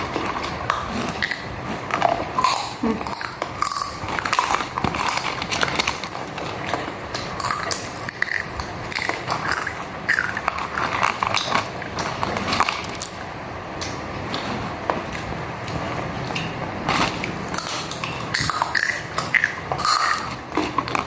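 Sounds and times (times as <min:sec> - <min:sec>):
person chewing crisp food: 0:00.0 - 0:21.0.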